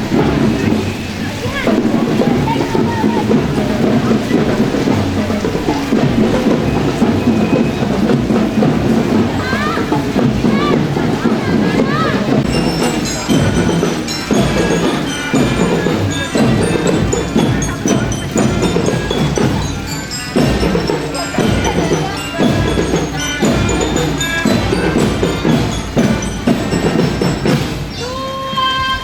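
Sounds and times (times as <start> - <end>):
mallet bells ringing: 0.0 - 28.3
drum strokes: 0.0 - 29.0
marching band playing: 0.0 - 29.0.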